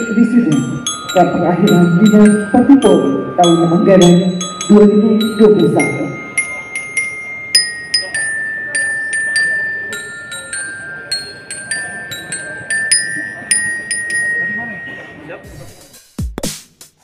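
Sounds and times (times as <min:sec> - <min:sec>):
bell lyre melody: 0:00.0 - 0:15.7.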